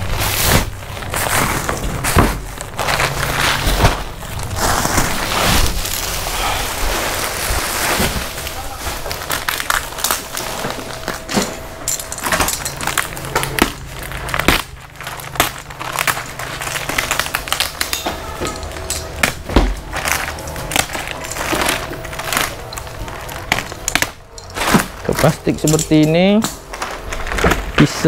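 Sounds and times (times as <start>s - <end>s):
plastic wrapping crinkling and tearing: 0.0s - 28.0s.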